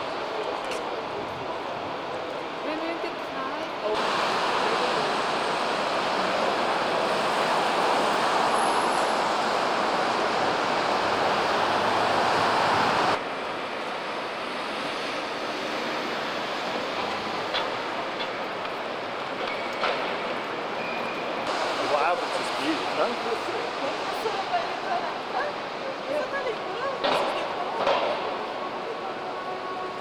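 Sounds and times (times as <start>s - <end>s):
city street traffic roar: 0.0s - 30.0s.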